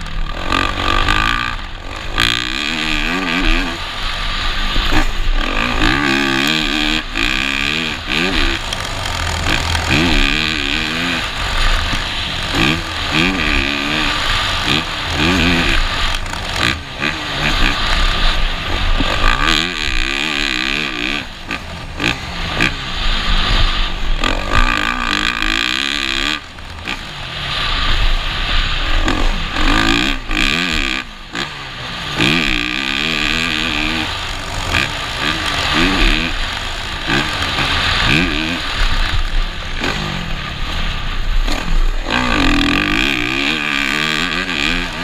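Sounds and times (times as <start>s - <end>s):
motocross bike engine revving: 0.0s - 45.0s
steady rushing noise: 0.0s - 45.0s.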